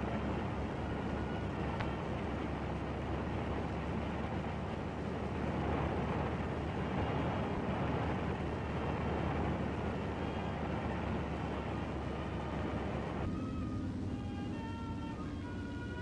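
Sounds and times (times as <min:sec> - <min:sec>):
aircraft radial engines droning: 0:00.0 - 0:16.0.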